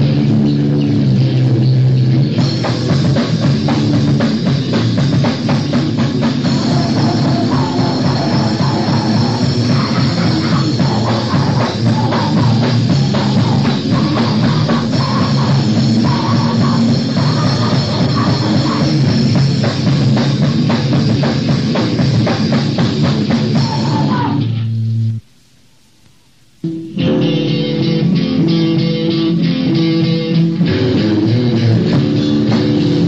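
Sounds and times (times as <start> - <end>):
loud punk song: 0.0 - 24.7, 26.7 - 33.0.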